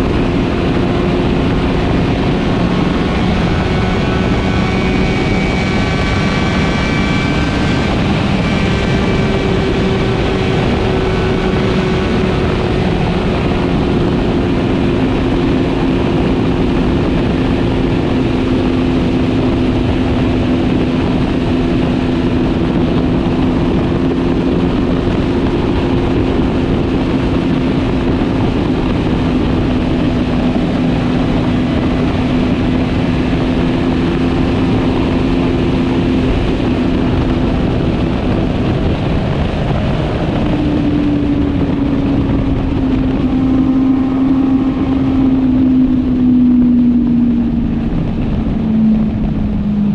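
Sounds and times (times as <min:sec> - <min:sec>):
motorcycle engine cruising: 0:00.0 - 0:49.9
wind and road noise: 0:00.0 - 0:49.9.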